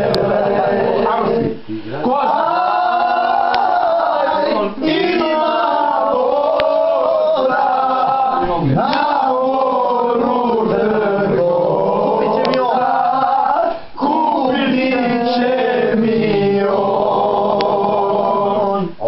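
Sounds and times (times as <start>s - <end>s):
group singing loudly: 0.0s - 19.0s.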